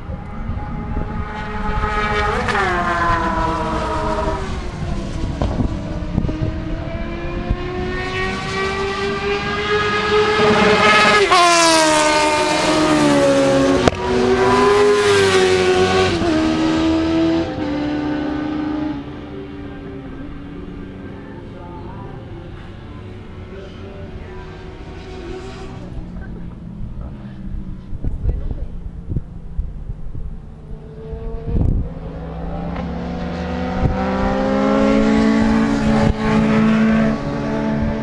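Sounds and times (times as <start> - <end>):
motorcycles passing at high speed: 0.0 - 38.0.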